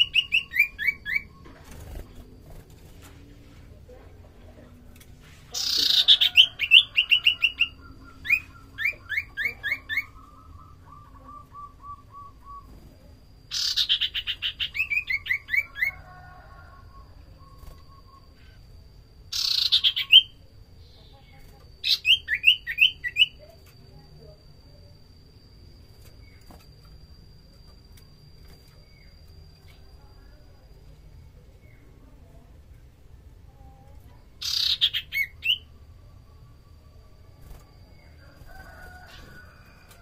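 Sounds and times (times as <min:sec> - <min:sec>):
bird singing: 0:00.0 - 0:02.8, 0:05.5 - 0:32.4, 0:33.5 - 0:40.0.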